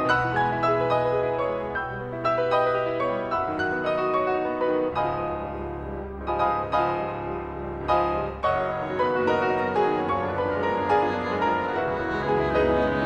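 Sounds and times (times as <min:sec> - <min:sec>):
slow piano notes: 0:00.0 - 0:13.0.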